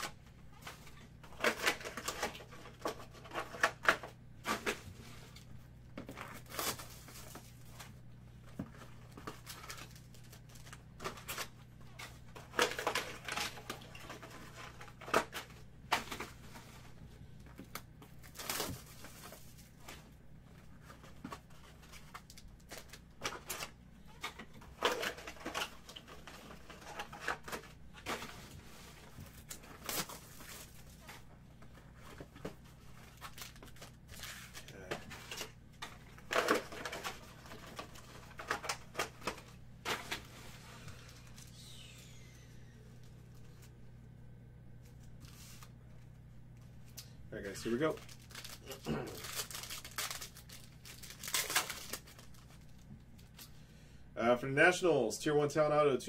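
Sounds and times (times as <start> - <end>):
card packs crinkling and tearing: 0.0 - 43.7, 46.8 - 53.7
faint low hum: 0.0 - 56.0.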